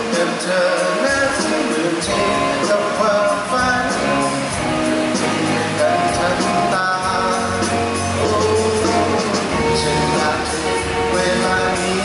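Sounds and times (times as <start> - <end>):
drum kit beat: 0.0 - 12.0
electric guitars: 0.0 - 12.0.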